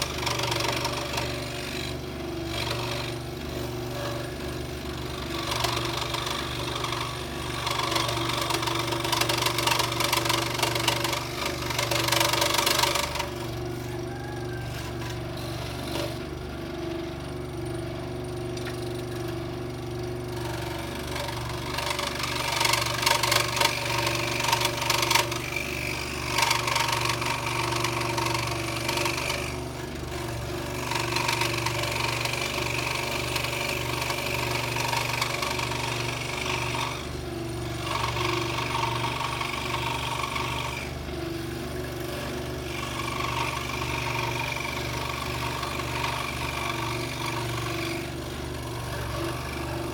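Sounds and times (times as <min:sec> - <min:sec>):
saw blade rasping through wood: 0:00.0 - 0:16.7, 0:19.0 - 0:49.9
scroll saw humming: 0:00.0 - 0:49.9.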